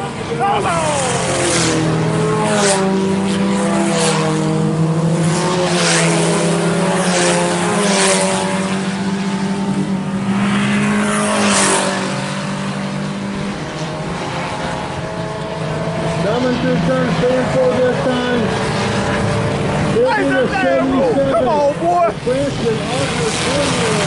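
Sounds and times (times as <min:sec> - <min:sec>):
race car engines running hard: 0:00.0 - 0:24.0.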